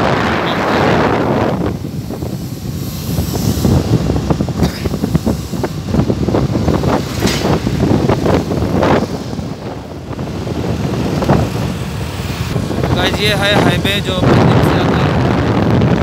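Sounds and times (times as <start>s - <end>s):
motorbike engine: 0.0s - 16.0s
road noise: 0.0s - 16.0s
wind buffeting microphone: 0.0s - 16.0s.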